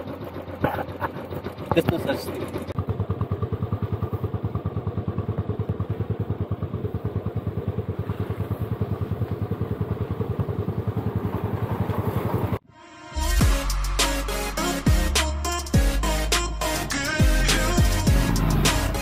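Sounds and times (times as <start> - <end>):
motorcycle engine running: 0.0 - 12.6, 14.8 - 19.0.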